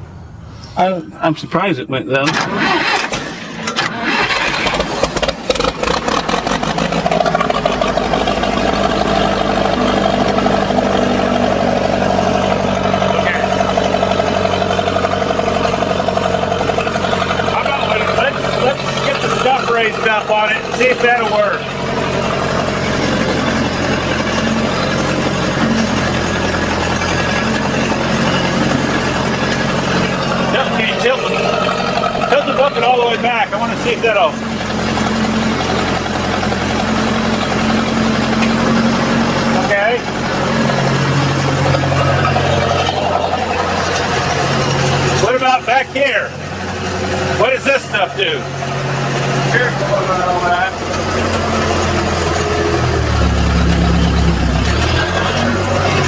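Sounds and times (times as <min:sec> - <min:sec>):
backhoe engine running: 0:00.0 - 0:01.4, 0:02.2 - 0:56.0.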